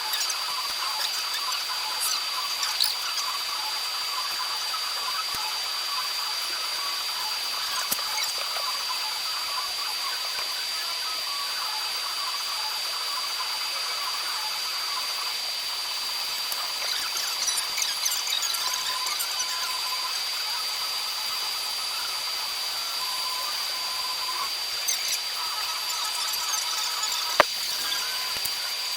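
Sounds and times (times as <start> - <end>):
machine high-pitched whine: 0.0 - 28.9.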